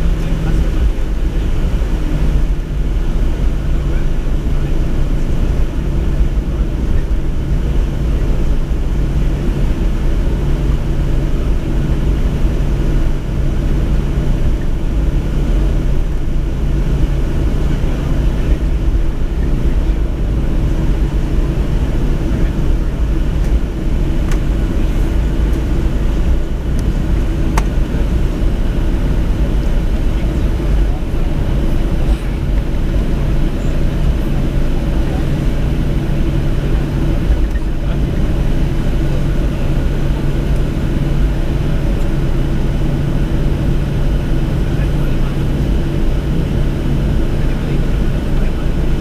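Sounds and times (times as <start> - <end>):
aircraft cabin air conditioning hum: 0.0 - 49.0.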